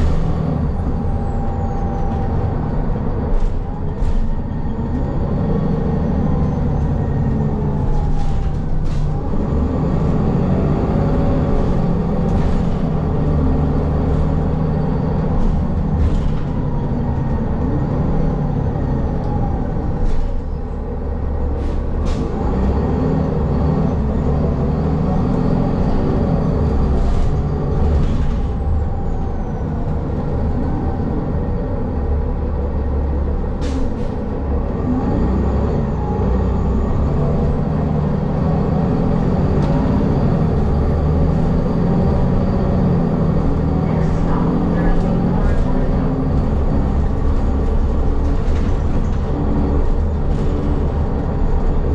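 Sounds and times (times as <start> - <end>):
bus engine: 0.0 - 51.9
road noise: 0.0 - 51.9.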